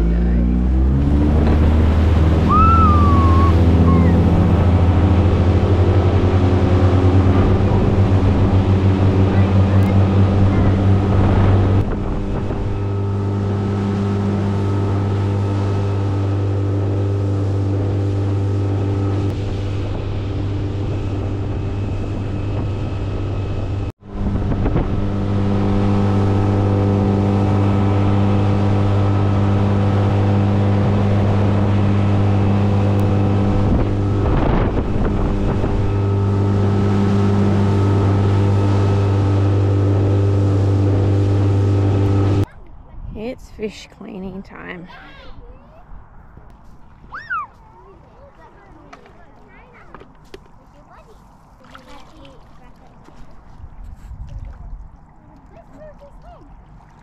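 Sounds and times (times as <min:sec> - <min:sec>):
outboard motor running: 0:00.0 - 0:45.0, 0:46.4 - 0:57.0.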